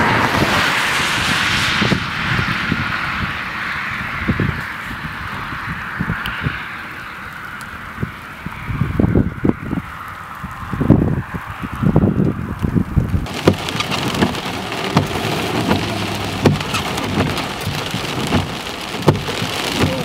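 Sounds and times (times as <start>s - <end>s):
gusty wind buffeting: 0.0s - 19.8s
heavy rain pelting a car: 0.0s - 20.0s.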